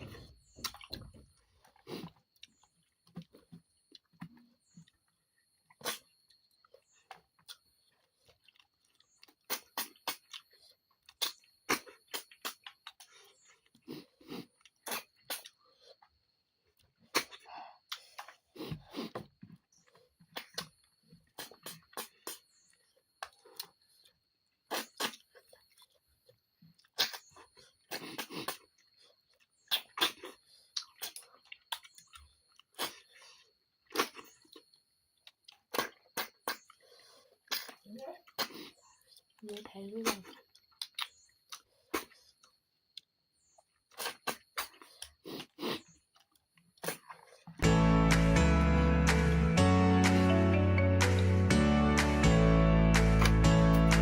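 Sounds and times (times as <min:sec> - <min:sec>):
chewing: 0:00.0 - 0:47.6
slurps and clicks of eating: 0:00.0 - 0:47.6.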